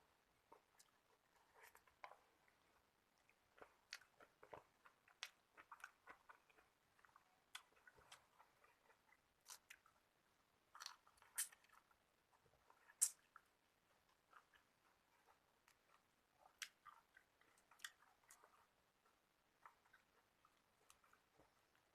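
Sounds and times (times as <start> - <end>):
person chewing and crunching food: 0.4 - 21.9.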